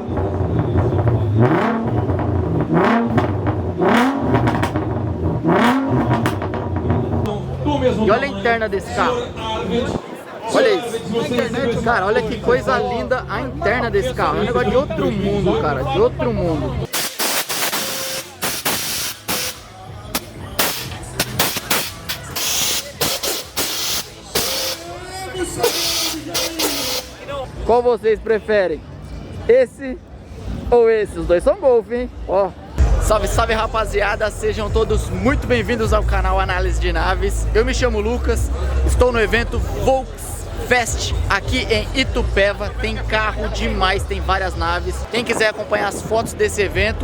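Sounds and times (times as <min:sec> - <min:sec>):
car engine idling and revving: 0:00.0 - 0:09.4, 0:11.4 - 0:27.5, 0:32.8 - 0:45.1
voices: 0:06.9 - 0:47.0.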